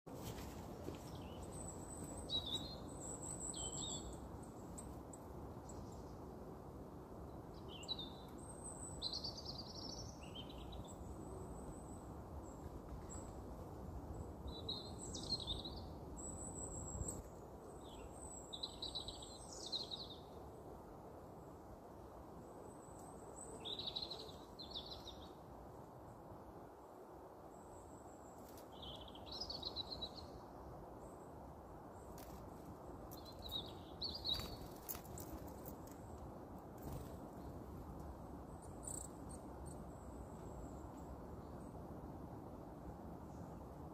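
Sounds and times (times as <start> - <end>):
songbirds singing: 0.2 - 6.5, 7.1 - 13.5, 14.1 - 21.7, 22.4 - 26.2, 27.4 - 41.9.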